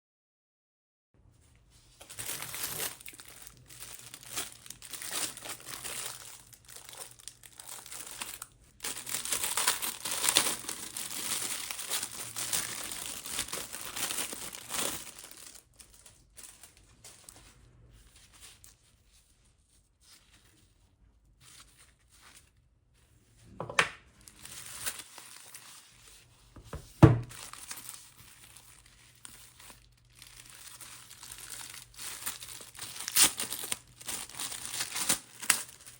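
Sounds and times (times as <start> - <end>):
plastic film and paper crinkling: 1.5 - 23.4, 24.1 - 35.9.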